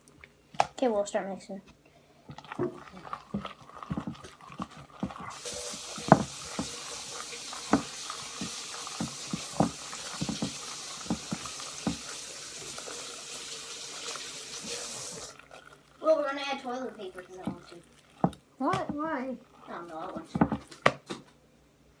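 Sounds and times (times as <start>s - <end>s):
water running from a tap: 2.4s - 20.5s.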